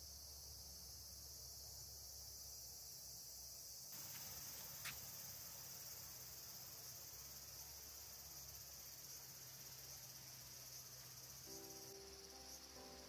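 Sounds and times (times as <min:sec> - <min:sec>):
high-pitched insect chorus: 0:00.0 - 0:13.0
insect chirp: 0:00.0 - 0:13.0.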